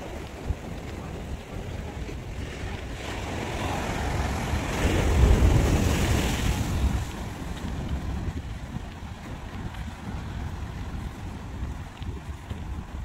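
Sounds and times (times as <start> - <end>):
surf breaking against rocks: 0.0 - 13.0
wind rumbling on the microphone: 0.0 - 13.0.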